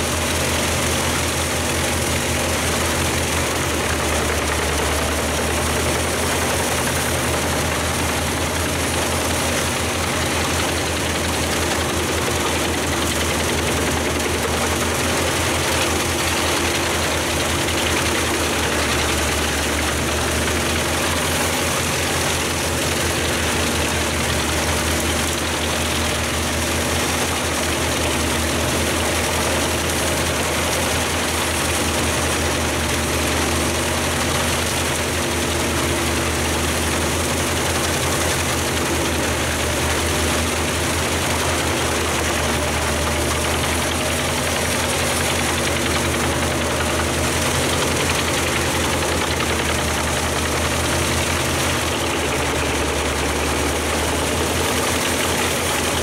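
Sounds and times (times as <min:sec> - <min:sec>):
diesel engine drone: 0:00.0 - 0:56.0
wood chipper drum rushing: 0:00.0 - 0:56.0.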